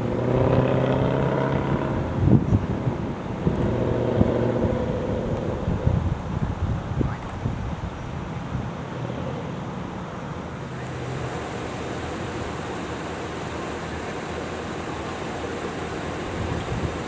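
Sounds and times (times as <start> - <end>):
busy street traffic: 0.0 - 17.0.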